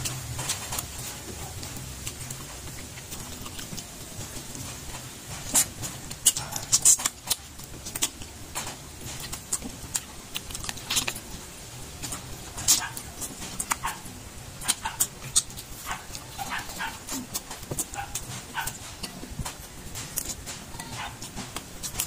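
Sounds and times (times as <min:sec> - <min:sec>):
wet chewing and lip smacks: 0:00.0 - 0:11.4, 0:12.0 - 0:22.0.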